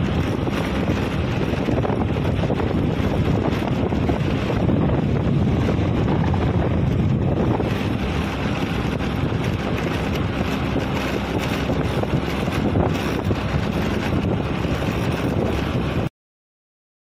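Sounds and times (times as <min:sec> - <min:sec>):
vehicle and road noise: 0:00.0 - 0:16.1
wind buffeting microphone: 0:00.0 - 0:16.1.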